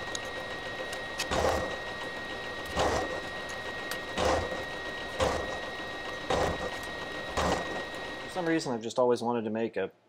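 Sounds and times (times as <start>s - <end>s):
end mill cutting metal: 0.0s - 8.8s
milling spindle whine: 0.0s - 9.4s.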